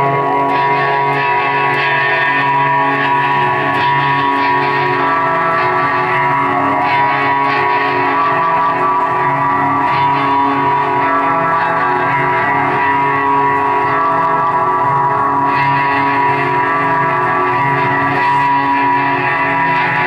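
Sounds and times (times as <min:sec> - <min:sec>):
live guitar music: 0:00.0 - 0:20.0.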